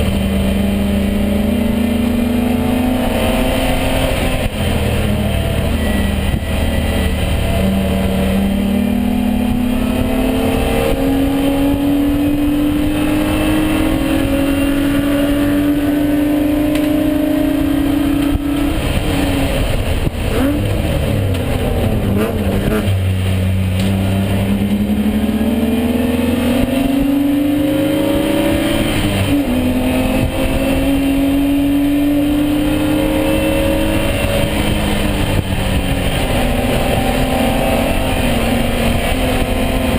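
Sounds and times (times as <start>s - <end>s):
engine rev blips: 0.0s - 39.9s
race car engine accelerating: 0.0s - 39.9s.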